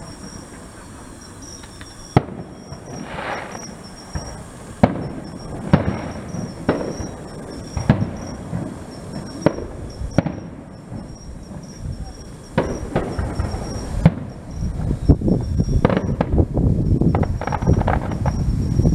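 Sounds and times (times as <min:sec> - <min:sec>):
firework hissing rush: 0:00.0 - 0:18.9
firework shells bursting: 0:00.0 - 0:18.9.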